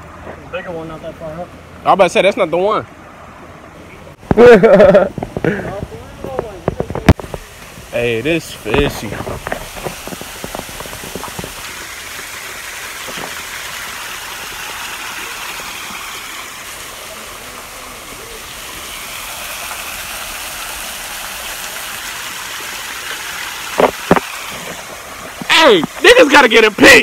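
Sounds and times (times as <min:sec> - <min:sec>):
water pouring over waterfall: 0:04.3 - 0:27.0.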